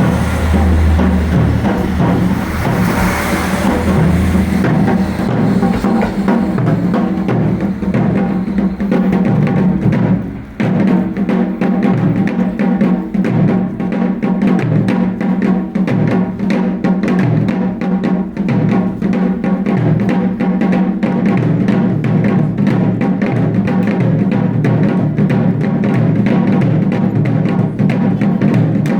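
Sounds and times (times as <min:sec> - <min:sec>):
taiko drums ensemble: 0:00.0 - 0:28.9.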